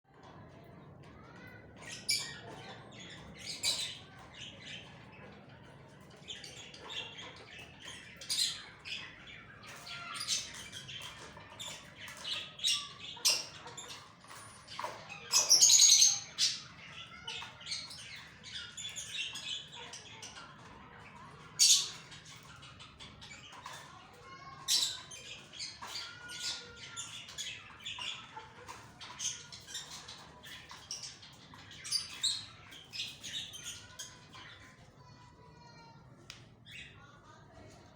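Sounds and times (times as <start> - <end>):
birds chirping and squawking: 0.2 - 37.1.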